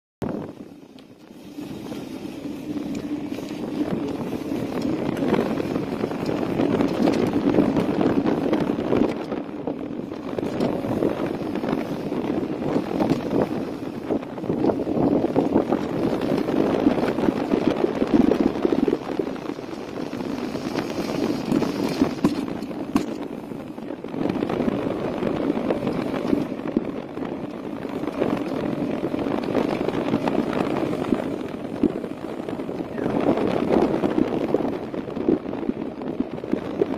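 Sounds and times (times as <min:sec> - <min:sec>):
wind buffeting microphone: 0:00.2 - 0:36.9
motorcycle engine running: 0:01.5 - 0:36.9.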